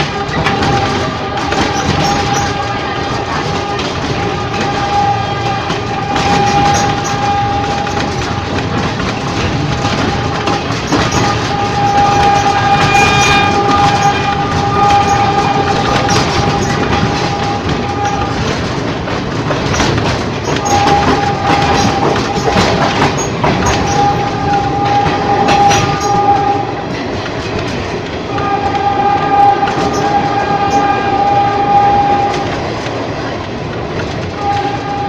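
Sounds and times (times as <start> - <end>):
train rumbling on rails: 0.0 - 35.0
wheels clicking over rail joints: 0.0 - 35.0.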